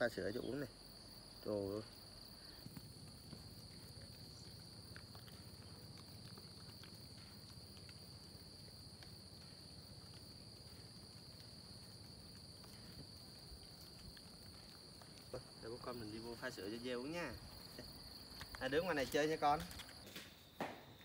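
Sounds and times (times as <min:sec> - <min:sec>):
insect chorus chirring: 0:00.0 - 0:21.0.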